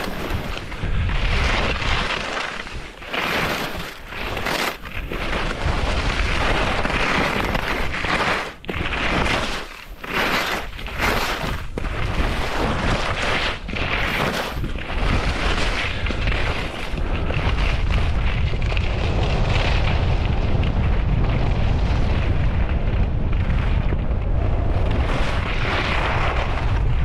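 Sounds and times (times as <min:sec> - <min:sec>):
skis scraping over snow: 0:00.0 - 0:27.0
wind rumble on microphone: 0:00.0 - 0:27.0.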